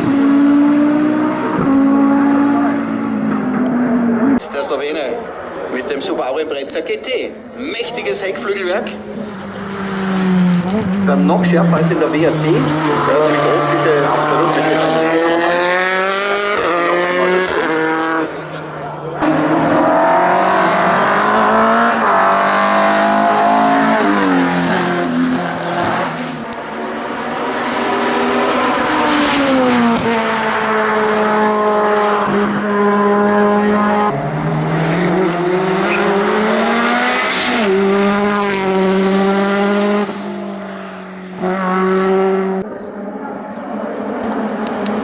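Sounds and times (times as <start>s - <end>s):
race car engine shifting gears: 0.0s - 45.0s.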